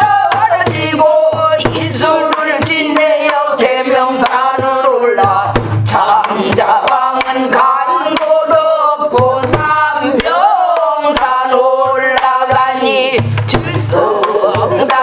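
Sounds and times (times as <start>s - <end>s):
barrel drum strokes and thumps: 0.0s - 15.0s
woman singing: 0.0s - 15.0s.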